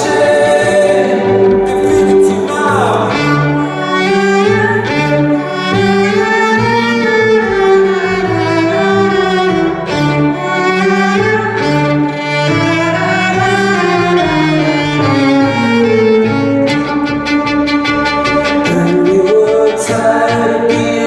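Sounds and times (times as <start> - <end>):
held low string notes: 0.0 - 21.0
violin melody: 0.0 - 21.0.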